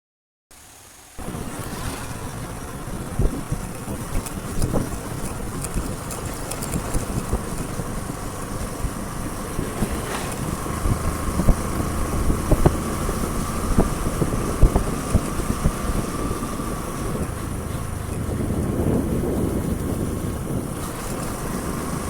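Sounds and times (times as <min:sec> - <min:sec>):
motorcycle engine running: 0:01.2 - 0:22.0
wind on microphone: 0:01.2 - 0:22.0.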